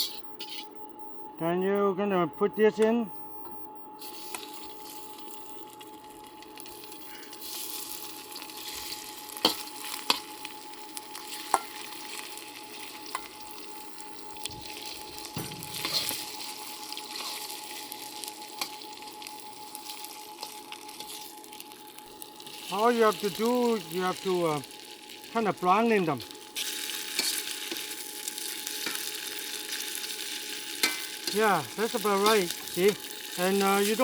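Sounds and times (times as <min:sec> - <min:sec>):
meat sizzling in hot oil: 0:00.0 - 0:00.6, 0:04.0 - 0:34.0.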